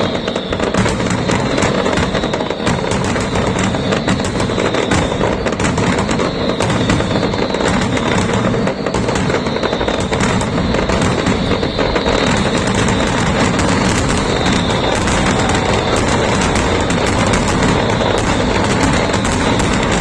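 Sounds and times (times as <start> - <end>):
fireworks bursts and crackling: 0.0 - 20.0.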